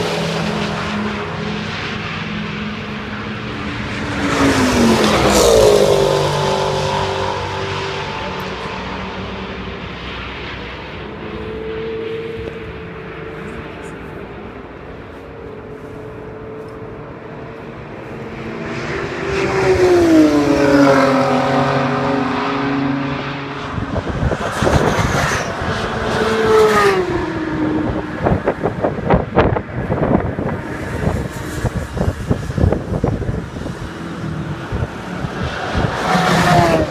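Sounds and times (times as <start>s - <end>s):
race car engines passing: 0.0s - 36.9s.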